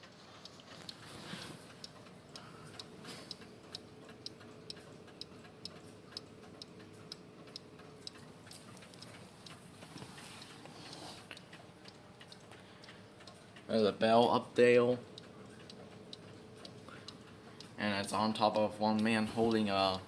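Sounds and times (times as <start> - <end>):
wall clock ticking: 0.0 - 20.0.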